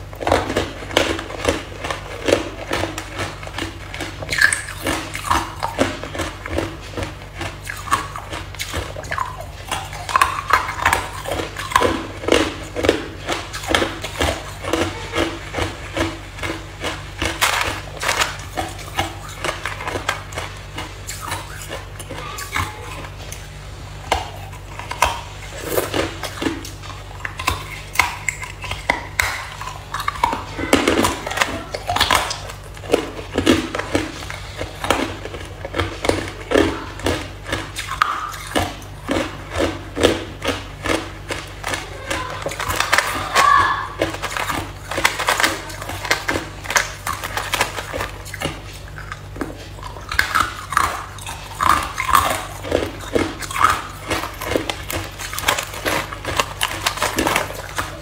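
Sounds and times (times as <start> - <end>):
ice crunching in mouth: 0.0 - 58.0.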